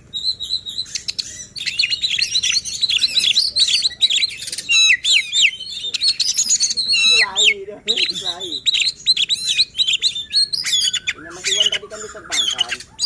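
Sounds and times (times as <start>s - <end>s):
bird singing chirps and whistles: 0.0s - 13.0s.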